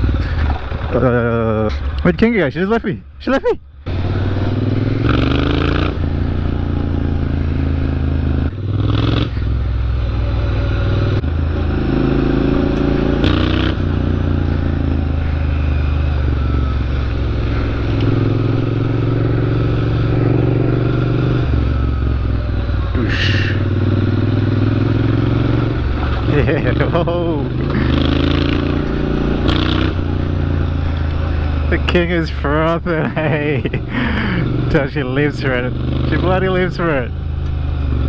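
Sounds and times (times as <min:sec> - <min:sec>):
motorcycle engine revving: 0:00.0 - 0:02.7, 0:03.7 - 0:38.0.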